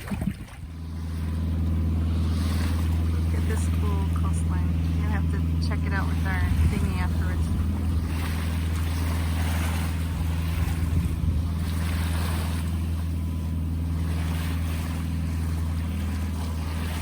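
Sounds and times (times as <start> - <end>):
boat engine droning: 0.0 - 17.0
water and wind hissing along hull: 0.0 - 17.0.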